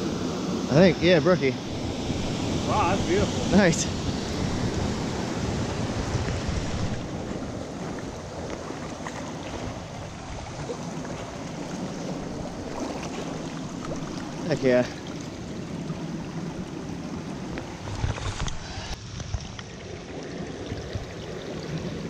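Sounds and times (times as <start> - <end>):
mountain creek rushing: 0.0 - 22.0
wind buffeting microphone: 0.0 - 22.0.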